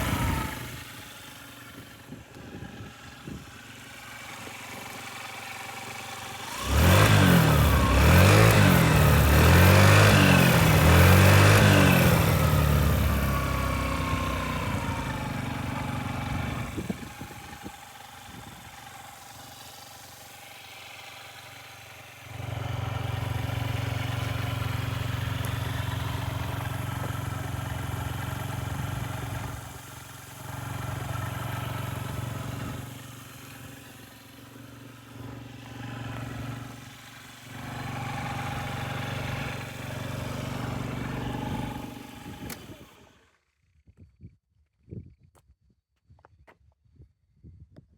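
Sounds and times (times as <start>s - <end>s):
scooter engine revving: 0.0s - 43.3s.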